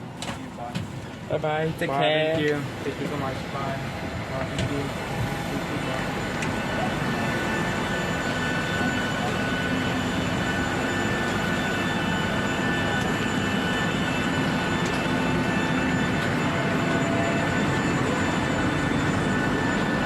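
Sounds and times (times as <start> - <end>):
jet engine whine and roar: 0.0 - 20.0.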